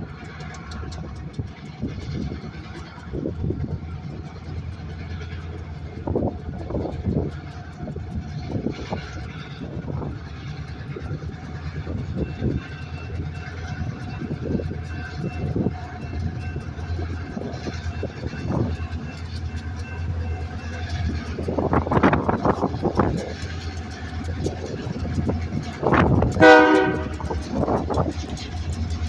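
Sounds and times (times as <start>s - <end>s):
diesel locomotive rumble: 0.0s - 29.0s
rail cars knocking and clattering: 0.0s - 29.0s.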